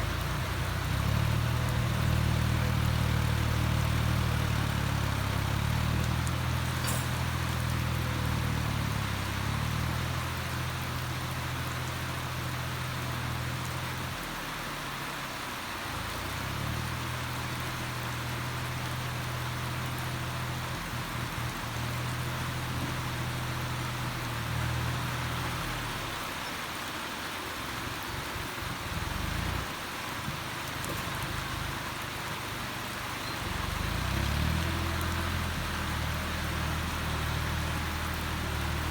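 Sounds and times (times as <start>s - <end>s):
diesel engine humming: 0.0s - 38.9s
rain hissing: 0.0s - 38.9s.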